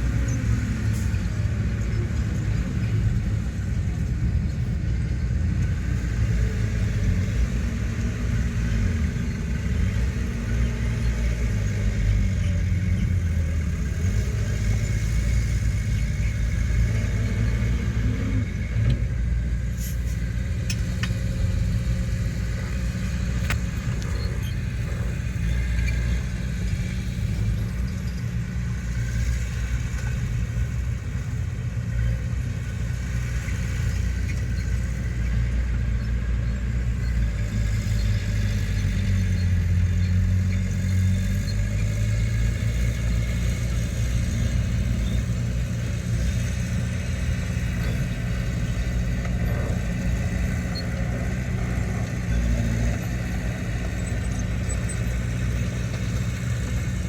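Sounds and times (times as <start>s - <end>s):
diesel engine low rumble: 0.0s - 57.0s.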